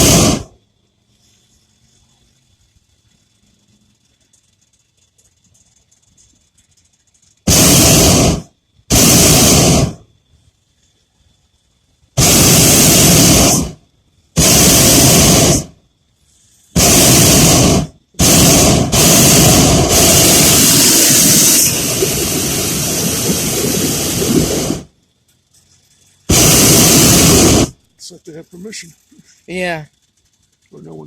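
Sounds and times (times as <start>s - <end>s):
propane burner blasts: 0.0s - 10.9s, 11.5s - 31.0s.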